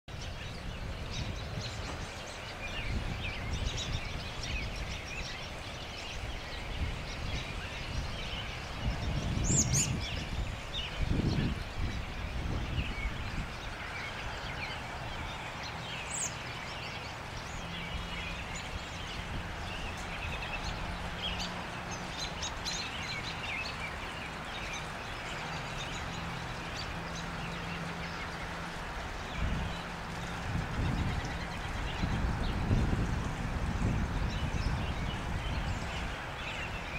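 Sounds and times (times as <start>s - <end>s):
birds chirping: 0.1s - 36.9s
outdoor background noise: 0.1s - 36.9s.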